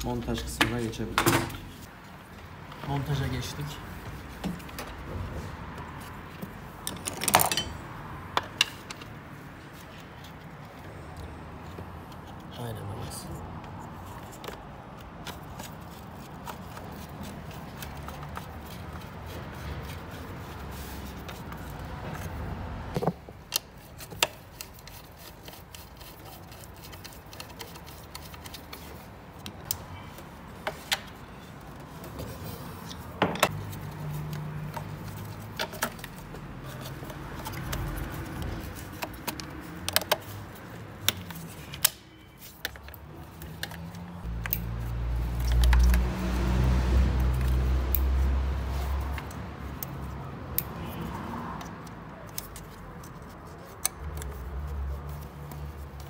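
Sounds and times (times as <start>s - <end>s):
low workshop background: 0.0s - 56.0s.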